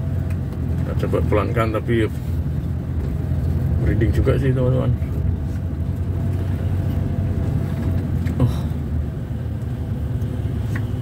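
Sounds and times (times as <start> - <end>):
road noise: 0.0 - 11.0
vehicle engine humming: 0.0 - 11.0.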